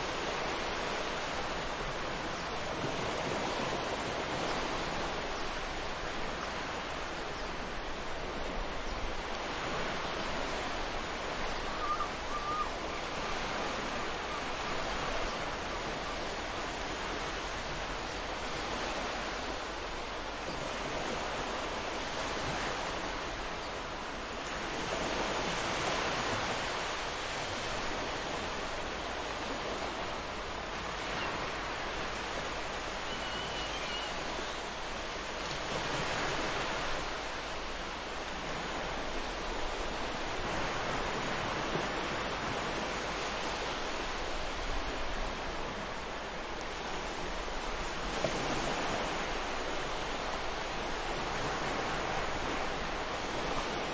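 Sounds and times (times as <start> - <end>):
sea waves breaking on sand: 0.0 - 53.9.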